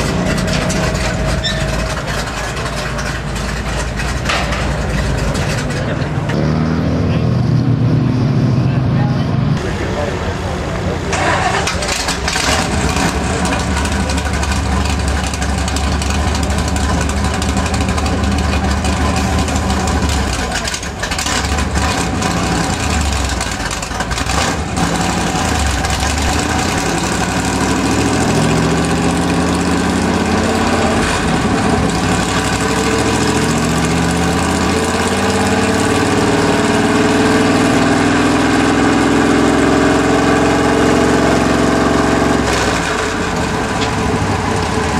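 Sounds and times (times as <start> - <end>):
truck engine revving on a dyno: 6.2 - 9.9, 11.1 - 44.9.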